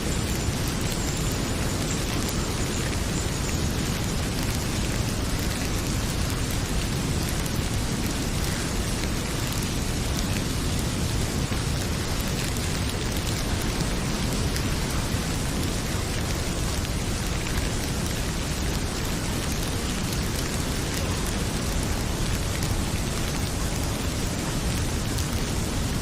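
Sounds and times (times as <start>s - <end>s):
heavy rain pouring: 0.0s - 26.0s
wood fire crackling: 0.0s - 26.0s.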